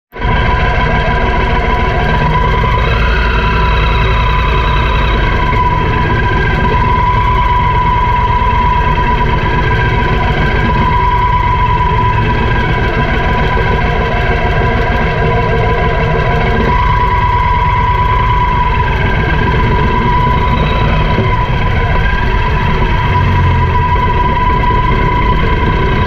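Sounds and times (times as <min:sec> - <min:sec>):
thin whine: 0:00.2 - 0:26.0
motorcycle engine at low revs: 0:00.3 - 0:26.0.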